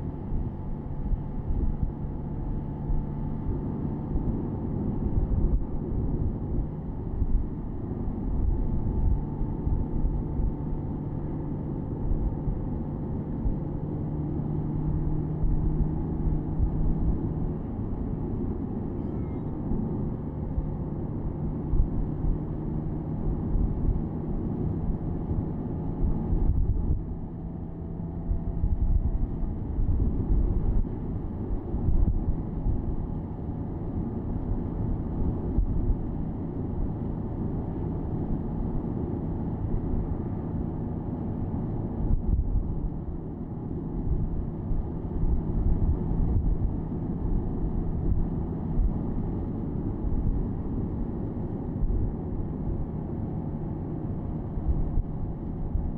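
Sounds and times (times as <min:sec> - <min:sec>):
road and wind rumble: 0:00.0 - 0:55.9.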